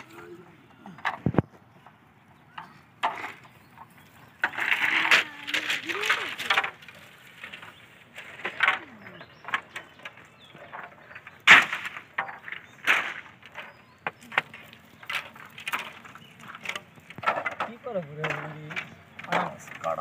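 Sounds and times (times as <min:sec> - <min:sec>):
bamboo poles clattering: 0:00.0 - 0:20.0.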